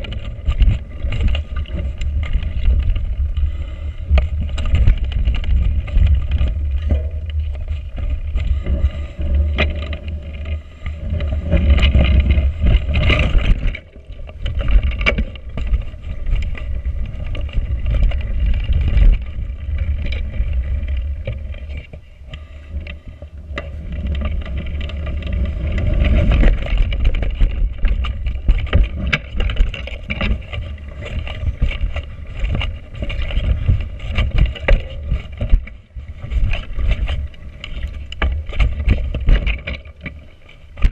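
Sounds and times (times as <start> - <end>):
mountain bike rattling on rough trail: 0.0 - 40.9.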